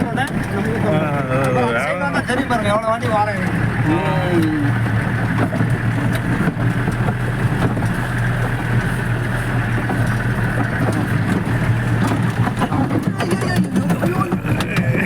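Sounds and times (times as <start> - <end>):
jeep engine droning: 0.0 - 15.0
vehicle rattles and knocks: 0.0 - 15.0.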